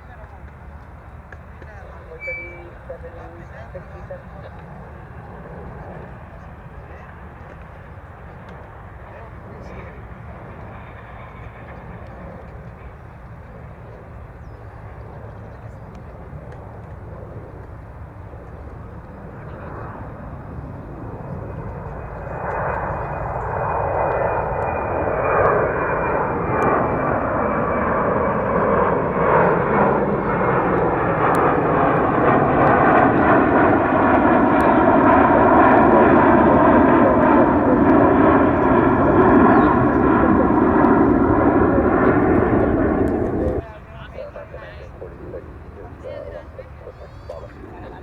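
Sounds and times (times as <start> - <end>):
jet engine roar: 0.0 - 48.0
jet engine whine: 0.0 - 48.0.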